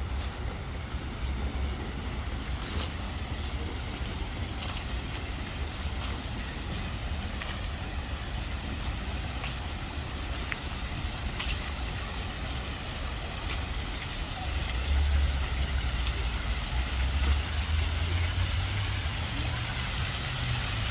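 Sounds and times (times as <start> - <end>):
road traffic rumble: 0.0 - 20.9.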